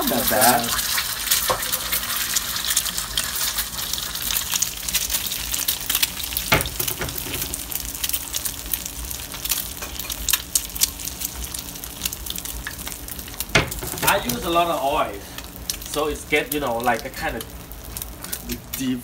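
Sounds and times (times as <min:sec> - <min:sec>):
egg sizzling in hot oil: 0:00.0 - 0:19.0.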